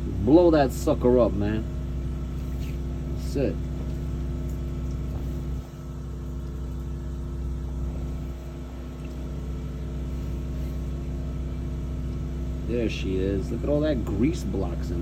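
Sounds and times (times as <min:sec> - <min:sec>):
water jetter engine running: 0:00.0 - 0:15.0.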